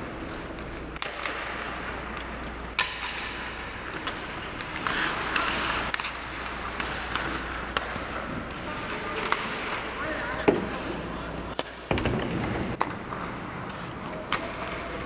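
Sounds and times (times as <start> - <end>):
hockey sticks and pucks clacking: 0.0 - 15.0
skate blades scraping on ice: 2.8 - 15.0.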